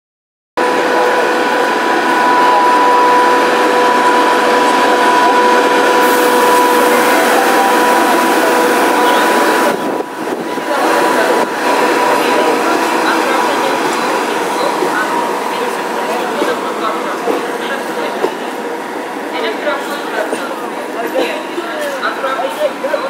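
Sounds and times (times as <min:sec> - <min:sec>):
electric locomotive whine: 0:00.6 - 0:23.0
train rushing noise: 0:00.6 - 0:23.0.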